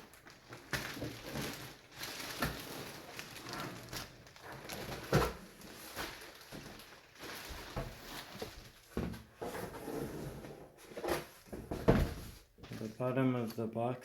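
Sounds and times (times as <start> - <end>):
rustling and scraping in cardboard box: 0.8 - 12.9.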